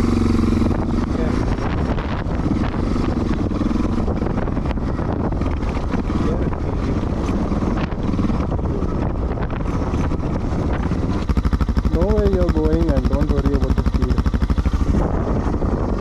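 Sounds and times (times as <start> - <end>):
wind noise on microphone: 0.0 - 11.3, 11.9 - 16.0
motorcycle engine running: 0.0 - 16.0.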